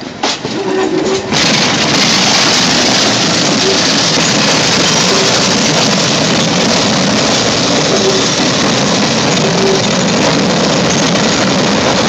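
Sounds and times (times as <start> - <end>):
train wheels rolling on rails: 0.0 - 12.0.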